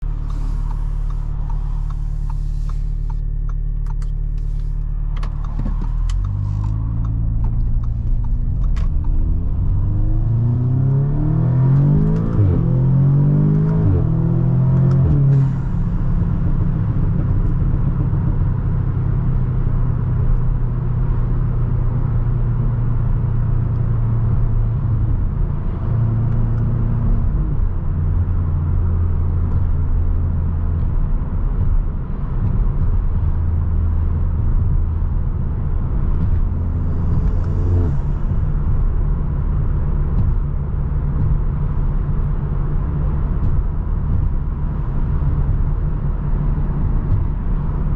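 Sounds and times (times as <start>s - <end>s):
car engine cruising: 0.0s - 47.9s.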